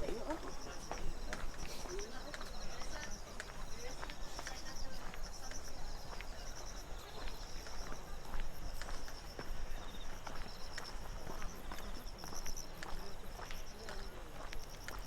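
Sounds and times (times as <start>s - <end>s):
footsteps on path: 0.0s - 15.0s
insects chirping: 0.0s - 15.0s.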